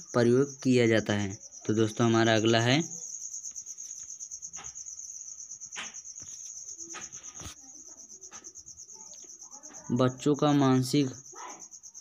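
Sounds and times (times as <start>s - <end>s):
faint insect trilling: 0.0s - 12.0s.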